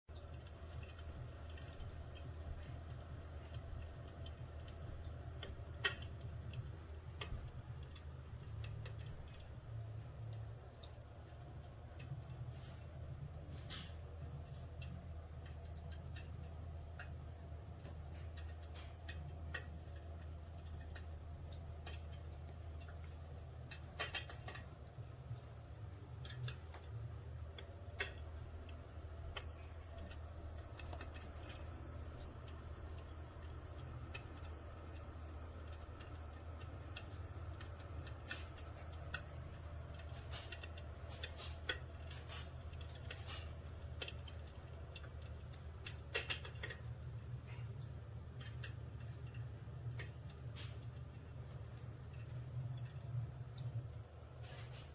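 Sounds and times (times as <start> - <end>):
steady low hum: 0.0 - 54.9
fire crackling sound effect: 0.1 - 54.9.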